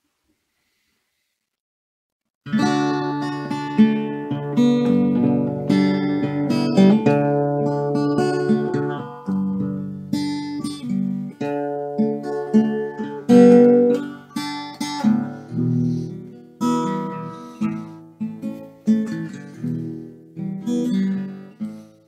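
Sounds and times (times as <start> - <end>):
acoustic guitar chords: 2.4 - 22.0.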